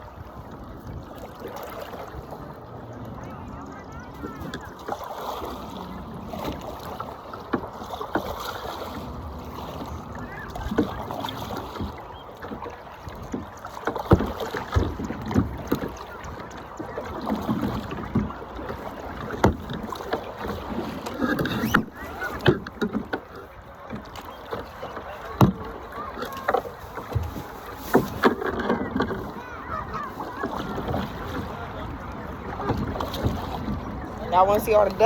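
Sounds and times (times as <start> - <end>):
paddle splashing through water: 0.0 - 35.0.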